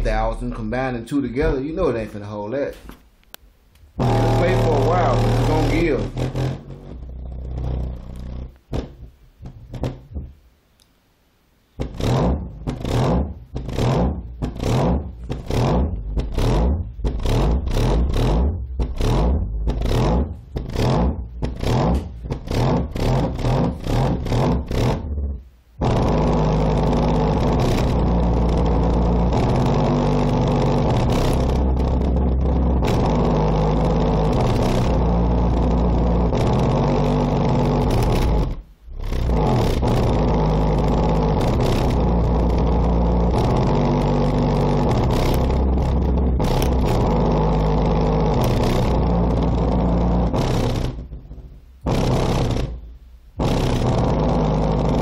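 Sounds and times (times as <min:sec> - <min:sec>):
loud bass line: 0:00.0 - 0:02.1, 0:03.9 - 0:10.4, 0:11.8 - 0:55.0.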